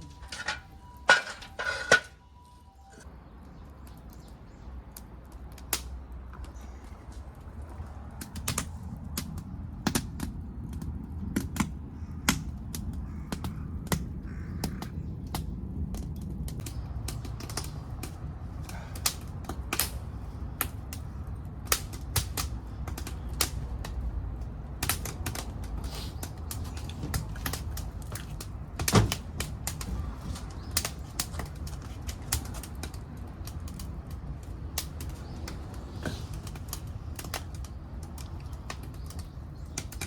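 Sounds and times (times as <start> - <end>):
low rumble of burning stove: 0.0 - 40.0
wood fire crackling and popping: 0.0 - 40.0.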